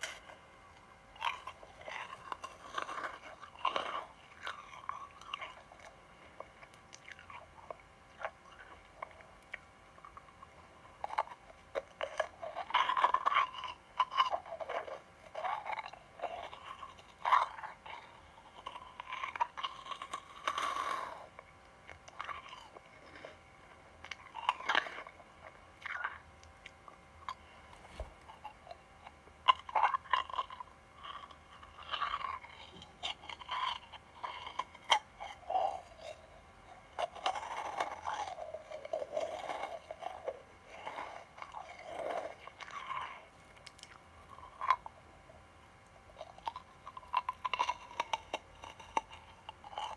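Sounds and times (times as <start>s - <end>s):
crunchy sweets being chewed: 0.0s - 49.9s.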